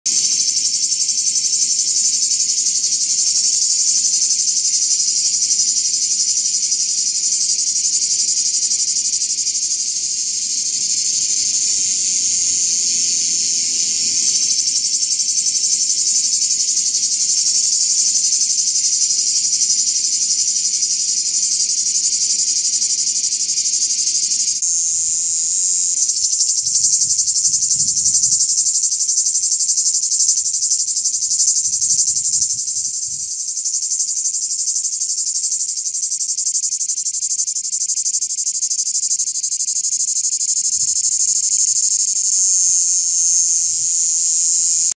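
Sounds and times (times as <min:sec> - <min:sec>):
cicada buzzing: 0:00.1 - 0:44.9.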